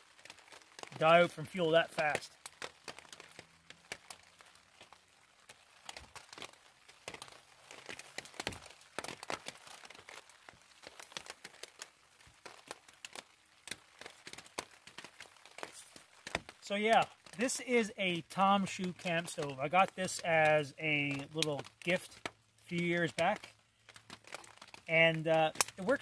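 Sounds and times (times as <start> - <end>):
raindrops on plastic tarp: 0.0 - 26.0.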